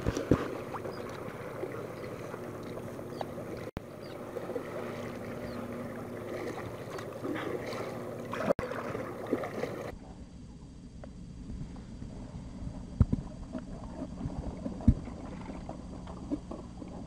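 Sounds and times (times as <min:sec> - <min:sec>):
water lapping and splashing: 0:00.0 - 0:10.2, 0:11.7 - 0:17.0.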